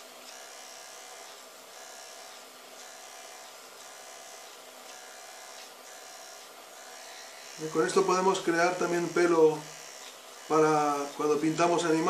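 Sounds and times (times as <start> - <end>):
electric eraser motor whirring: 0.0 - 12.0.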